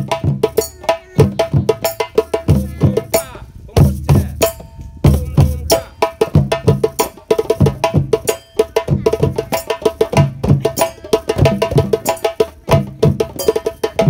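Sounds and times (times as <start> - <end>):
hand drums playing rhythm: 0.0 - 14.0.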